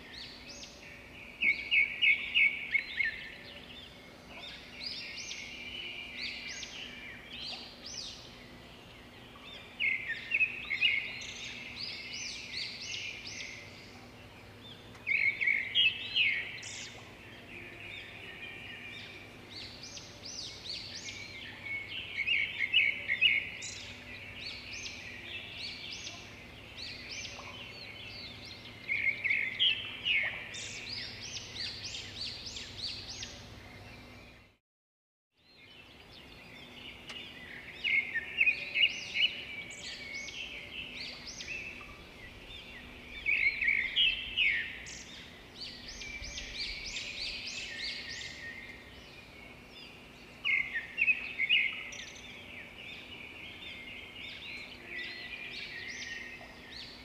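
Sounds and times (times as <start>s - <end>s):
birds chirping and trilling: 0.0s - 34.6s, 35.4s - 57.0s.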